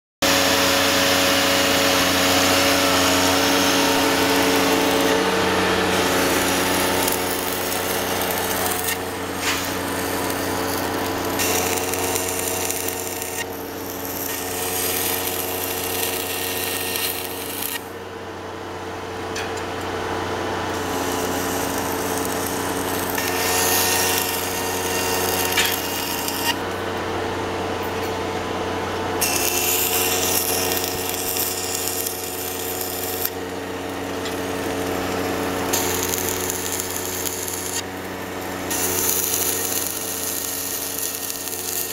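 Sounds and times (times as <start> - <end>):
welding arc crackling and hissing: 0.2 - 17.9, 20.7 - 26.8, 29.2 - 41.9.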